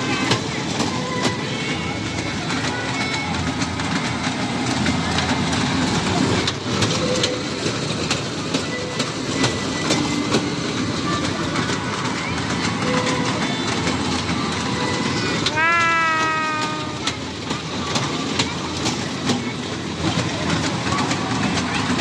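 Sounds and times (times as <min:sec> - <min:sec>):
train rumble: 0:00.0 - 0:22.0
wheels clicking over rail joints: 0:00.0 - 0:22.0.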